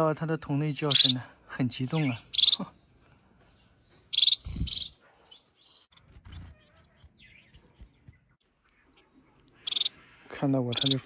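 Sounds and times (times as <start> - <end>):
finches chirping: 0.7 - 5.9, 6.5 - 11.0.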